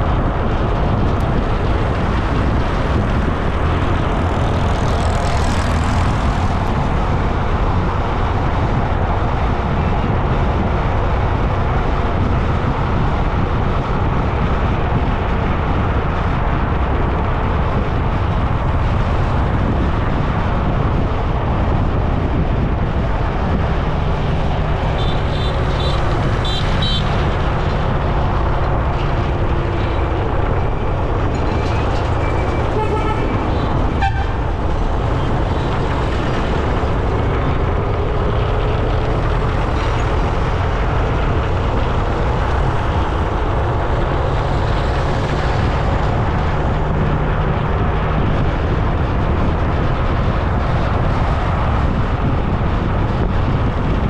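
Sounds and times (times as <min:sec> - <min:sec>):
engine hum: 0:00.0 - 0:54.0
road traffic: 0:00.0 - 0:54.0
wind on microphone: 0:00.0 - 0:54.0.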